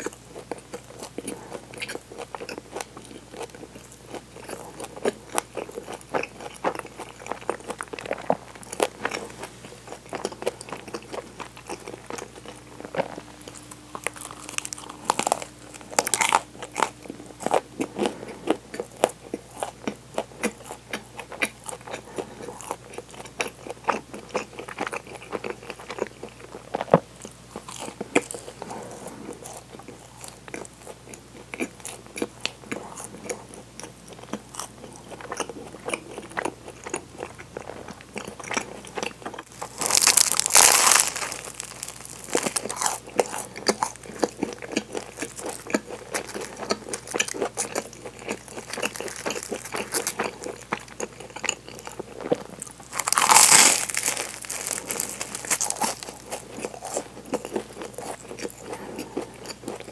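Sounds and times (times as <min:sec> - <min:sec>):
chewing and crunching bread: 0:00.0 - 0:59.9.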